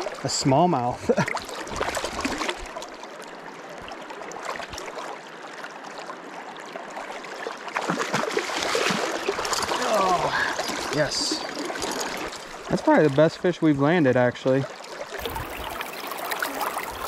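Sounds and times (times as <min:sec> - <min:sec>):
light water splashes: 0:00.0 - 0:17.0
river water rushing: 0:01.6 - 0:13.1, 0:14.7 - 0:17.0.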